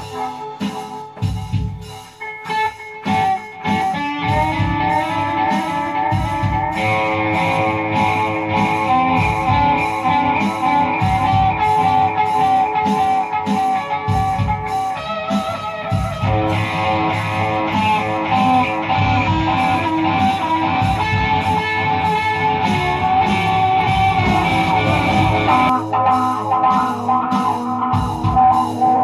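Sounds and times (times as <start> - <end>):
electric guitar playing: 0.0 - 29.0
music with steady beat: 0.0 - 29.0.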